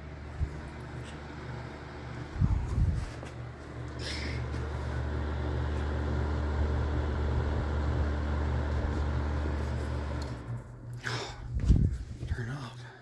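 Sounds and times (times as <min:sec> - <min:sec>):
heater humming: 0:00.0 - 0:13.0.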